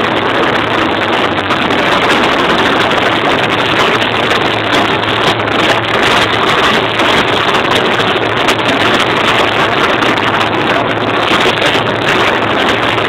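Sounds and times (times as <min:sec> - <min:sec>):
many motorcycle engines running: 0:00.0 - 0:13.0.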